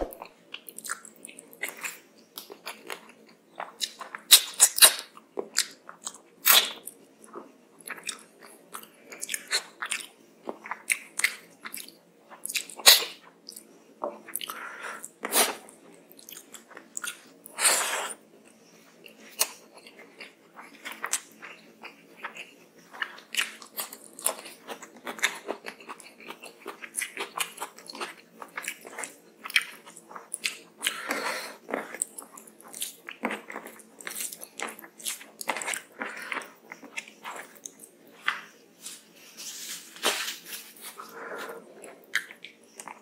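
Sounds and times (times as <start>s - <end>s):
wet chewing and mouth clicks: 0.0s - 17.6s, 19.0s - 38.5s, 40.8s - 43.0s.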